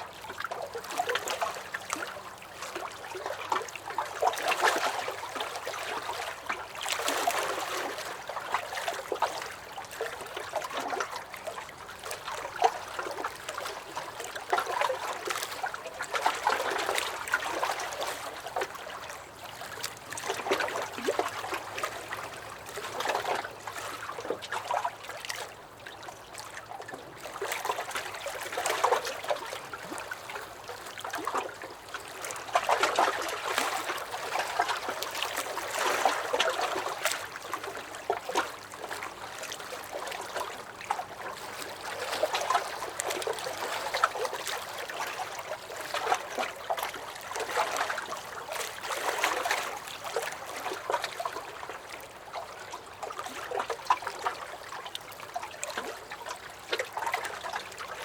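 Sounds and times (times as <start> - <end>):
waves lapping against a dock: 0.0 - 58.0.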